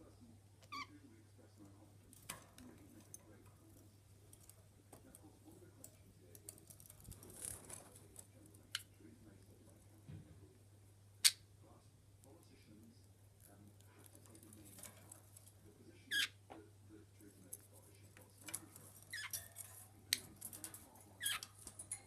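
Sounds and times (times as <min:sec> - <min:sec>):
budgies clicking and rustling: 0:00.1 - 0:10.6, 0:11.2 - 0:22.0.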